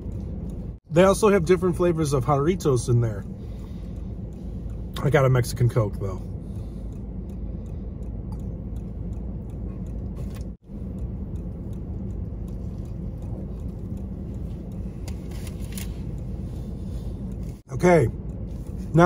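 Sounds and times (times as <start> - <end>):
low car cabin hum: 0.0 - 19.0.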